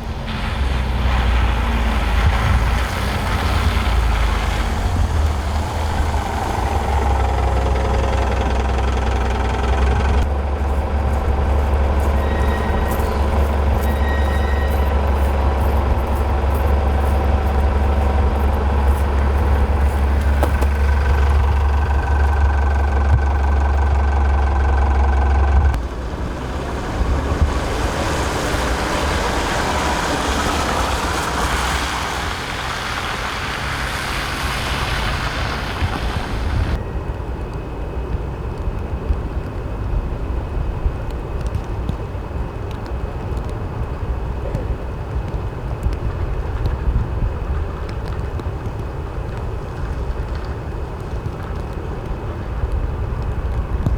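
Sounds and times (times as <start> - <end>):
street traffic rushing: 0.0 - 53.9
vehicle engine rumbling: 0.0 - 53.9.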